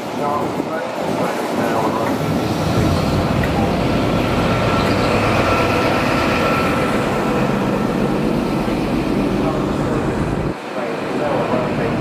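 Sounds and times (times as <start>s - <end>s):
train wheels rumbling on rails: 0.0s - 12.0s
diesel engine whine: 0.3s - 12.0s.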